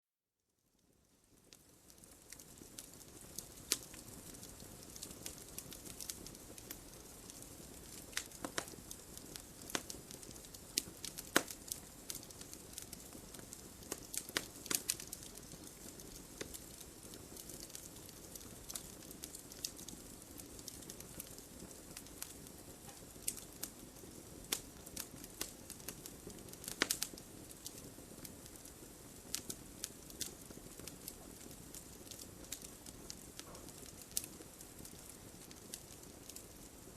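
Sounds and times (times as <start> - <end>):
wood fire crackling: 0.5 - 36.9.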